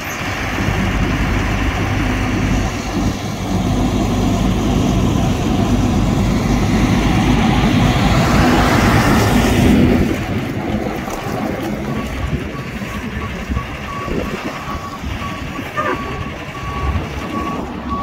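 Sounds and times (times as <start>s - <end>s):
diesel truck engine idling: 0.0s - 18.0s
heavy truck driving past: 0.0s - 18.0s.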